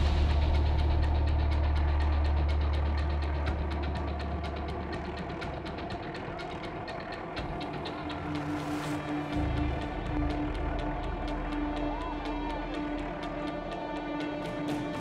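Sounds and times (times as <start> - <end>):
deep engine drone: 0.0 - 15.0
helicopter rotor beating: 0.0 - 15.0.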